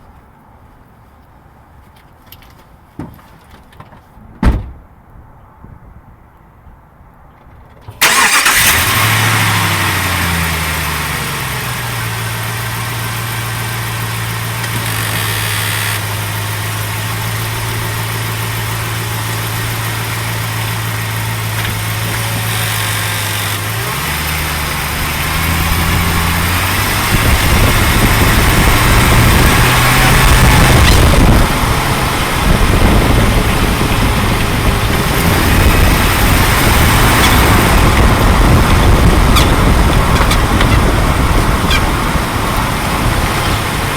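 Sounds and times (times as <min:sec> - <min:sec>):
car engine starting and idling: 0:07.8 - 0:43.9.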